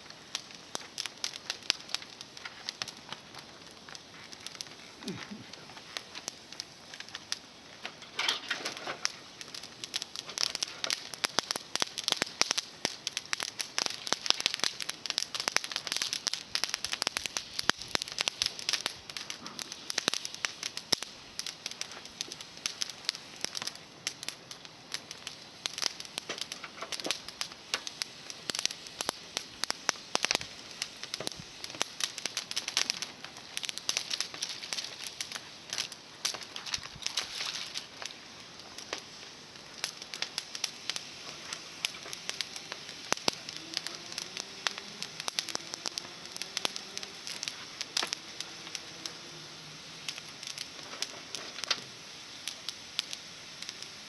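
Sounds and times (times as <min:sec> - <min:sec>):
bonfire crackling: 0:00.0 - 0:54.0.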